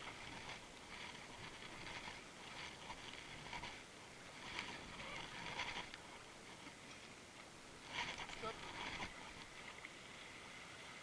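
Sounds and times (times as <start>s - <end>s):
paddles splashing in water: 0.0s - 11.0s.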